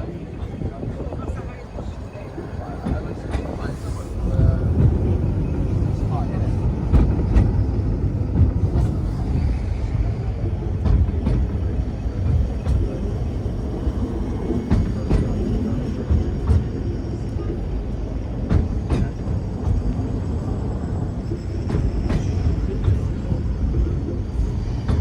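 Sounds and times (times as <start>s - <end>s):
tramcar rumbling on rails: 0.0s - 25.0s.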